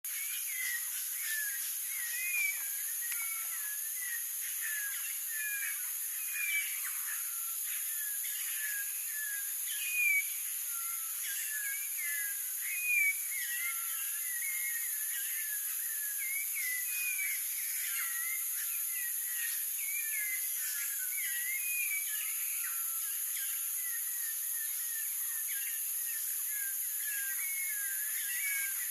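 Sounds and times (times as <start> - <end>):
bird singing whistled notes: 0.1 - 28.9
insect drone: 0.1 - 28.9.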